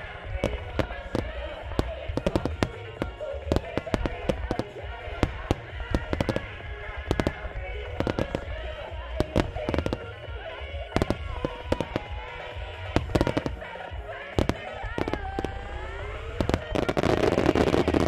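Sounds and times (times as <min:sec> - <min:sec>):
dense fireworks crackling: 0:00.0 - 0:18.0
fireworks shells booming: 0:00.0 - 0:18.0.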